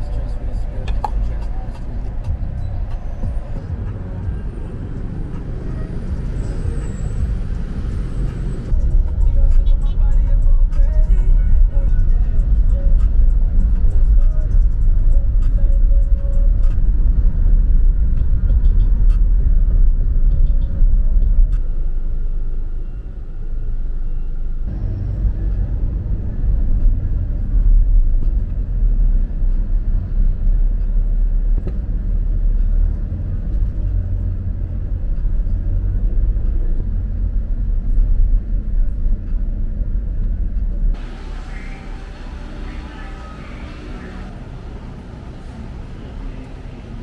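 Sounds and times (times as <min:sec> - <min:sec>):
vehicle engine low rumble: 0:00.0 - 0:47.0.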